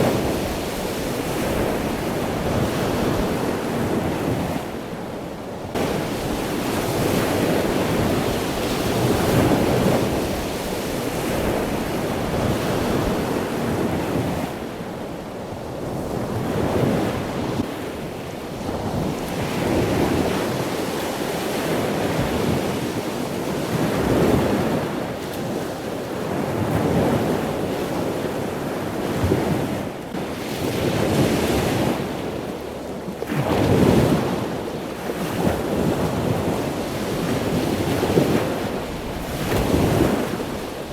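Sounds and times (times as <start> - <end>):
wind buffeting microphone: 0.0 - 40.9
surf washing onto shore: 5.7 - 15.0, 15.6 - 40.9.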